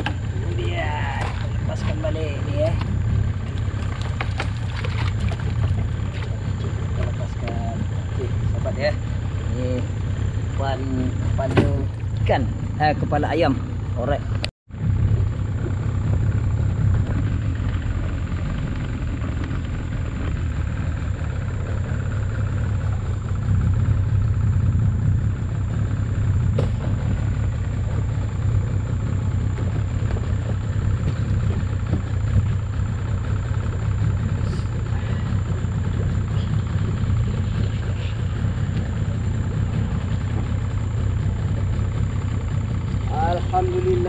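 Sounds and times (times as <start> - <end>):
boat motor rumbling: 0.0 - 44.0.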